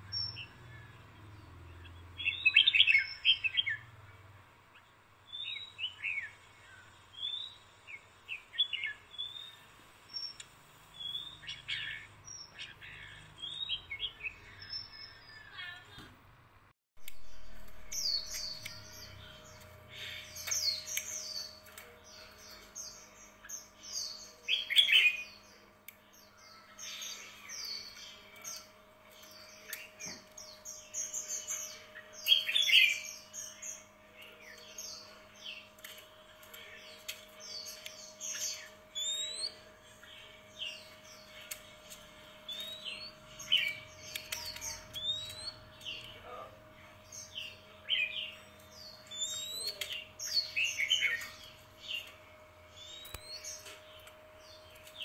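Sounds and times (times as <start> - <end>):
faint steady hum: 0.0 - 55.0
songbirds chirping and twittering: 0.0 - 55.0.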